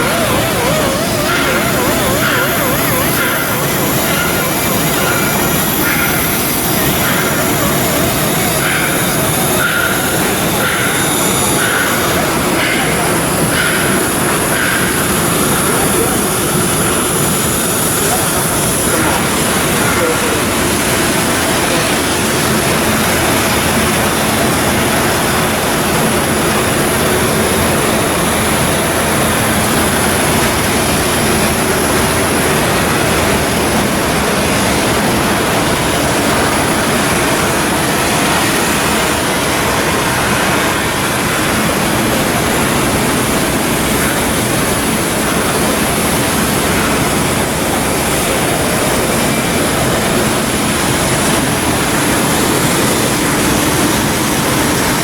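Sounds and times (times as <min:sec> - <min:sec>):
loud machinery noise: 0:00.0 - 0:55.0.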